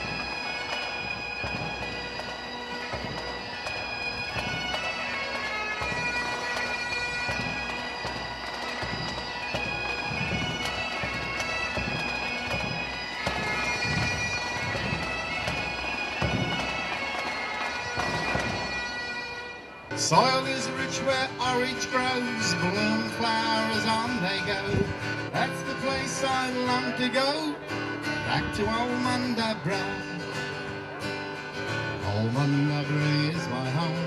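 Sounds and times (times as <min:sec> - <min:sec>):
bagpipes melody with drones: 0:00.0 - 0:34.0.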